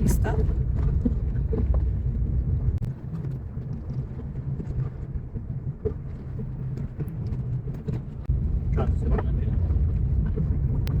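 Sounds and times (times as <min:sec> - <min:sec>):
car driving on dirt road: 0:00.0 - 0:11.0.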